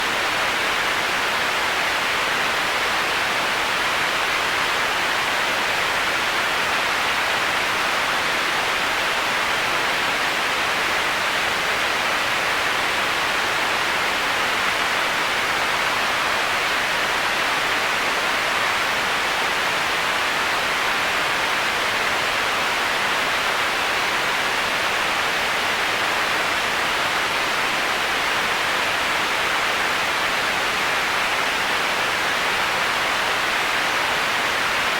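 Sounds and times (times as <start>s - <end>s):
heavy rain hiss: 0.0s - 34.9s.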